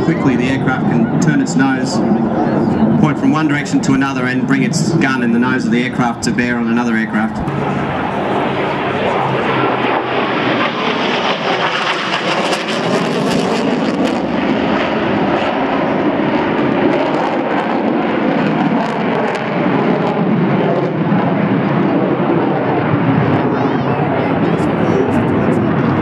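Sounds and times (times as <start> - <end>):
fighter jet engines roaring: 0.0 - 26.0.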